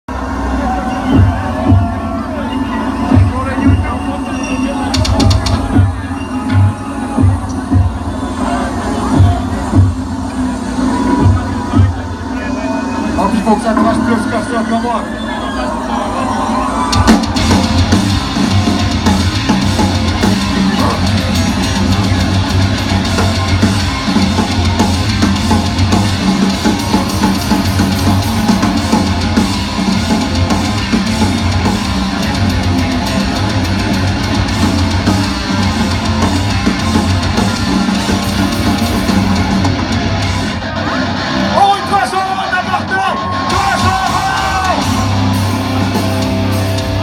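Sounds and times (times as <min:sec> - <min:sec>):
metal band playing loud: 0:00.1 - 0:47.0.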